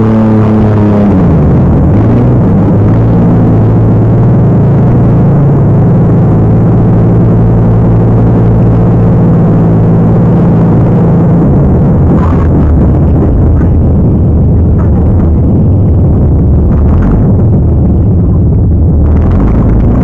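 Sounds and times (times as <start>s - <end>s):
off-road truck engine running: 0.0s - 20.0s.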